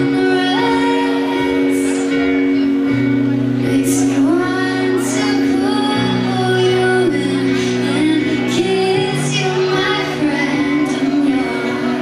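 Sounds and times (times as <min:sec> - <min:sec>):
woman singing: 0:00.0 - 0:02.6, 0:03.6 - 0:12.0
rock band playing a ballad: 0:00.0 - 0:12.0.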